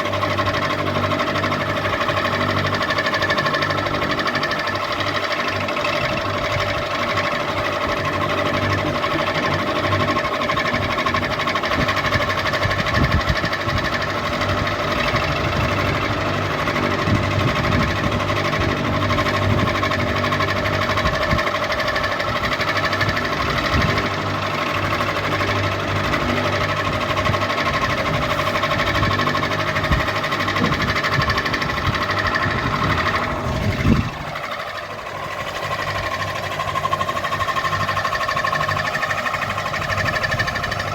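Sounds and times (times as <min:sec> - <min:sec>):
ceiling fan motor hum: 0:00.0 - 0:40.9
low knocking rattle: 0:00.0 - 0:40.9.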